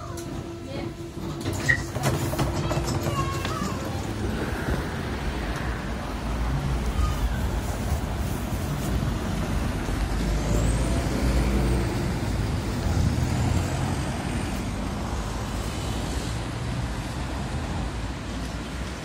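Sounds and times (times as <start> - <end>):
road traffic rumble: 0.0 - 19.0
tram standing: 0.0 - 19.0.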